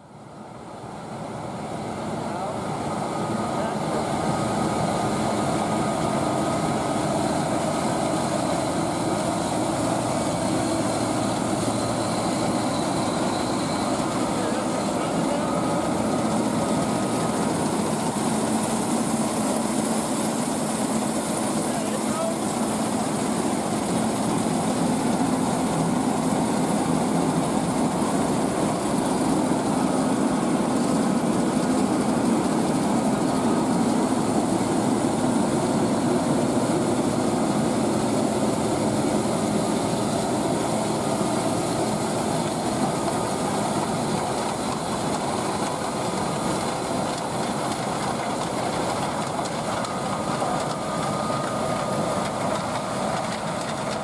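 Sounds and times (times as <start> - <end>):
faint steady whine: 0.0 - 54.0
diesel machinery engine running: 0.1 - 54.0.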